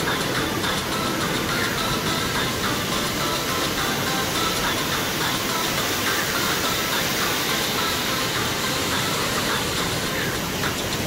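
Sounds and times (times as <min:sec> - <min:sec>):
indoor waterfall splashing into pool: 0:00.0 - 0:11.0.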